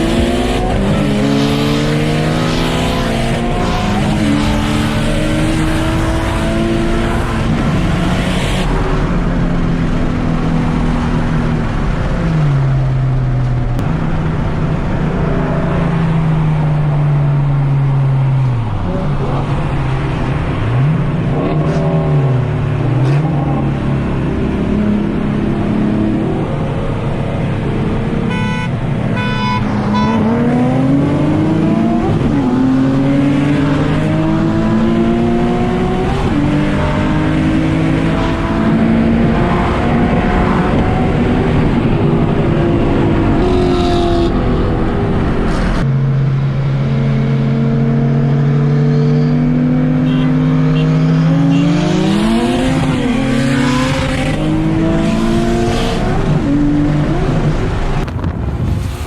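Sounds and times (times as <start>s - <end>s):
car engine accelerating hard: 0.0s - 28.2s, 29.8s - 45.9s, 46.8s - 59.0s.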